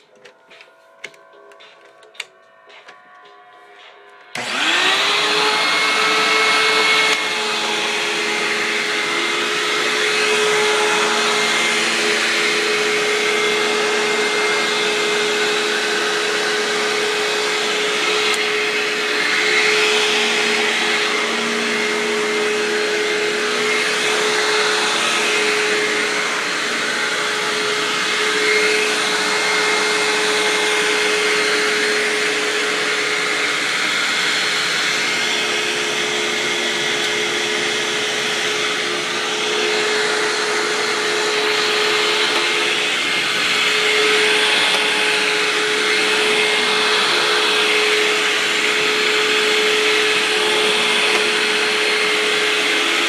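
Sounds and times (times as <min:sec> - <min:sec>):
vacuum cleaner motor whine: 0:00.0 - 0:53.0.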